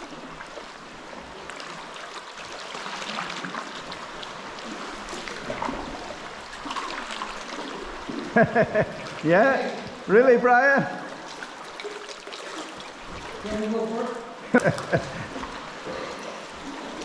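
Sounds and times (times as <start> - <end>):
water sloshing around kayak: 0.0 - 10.2, 10.8 - 17.0.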